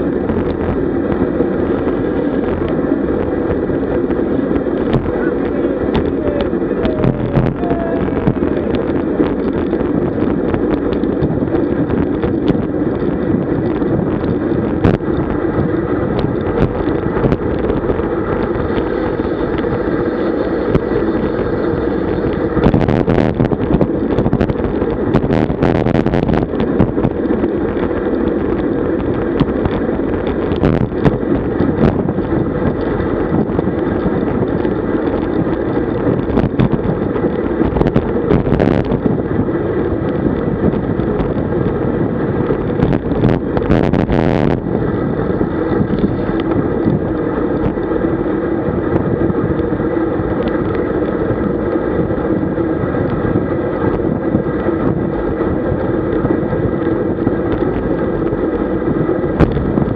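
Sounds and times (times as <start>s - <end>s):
tyre and road noise: 0.0s - 59.9s
wind rush on microphone: 0.0s - 59.9s.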